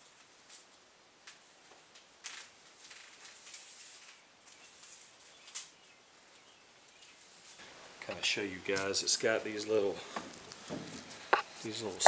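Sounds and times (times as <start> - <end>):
tape rustling and crackling: 0.0 - 12.0.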